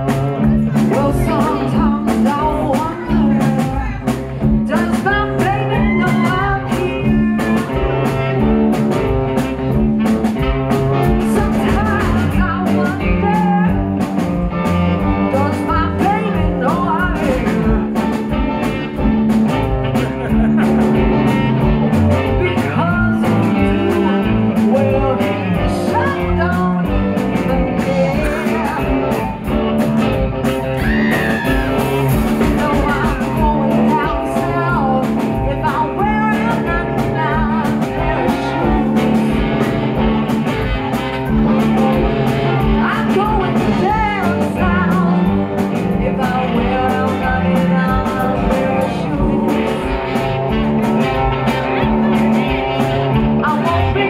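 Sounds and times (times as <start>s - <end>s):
drums: 0.0s - 54.0s
electric bass: 0.0s - 54.0s
electric guitar: 0.0s - 54.0s
saxophone: 0.0s - 54.0s
woman singing: 0.2s - 8.6s, 11.0s - 13.9s, 15.0s - 18.2s, 22.1s - 29.6s, 30.9s - 39.9s, 41.5s - 54.0s.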